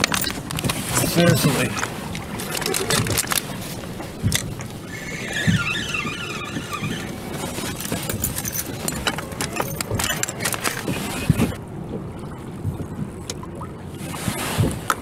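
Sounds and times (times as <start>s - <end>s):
water slapping against hull: 0.0s - 15.0s
wind rumbling on microphone: 0.0s - 15.0s.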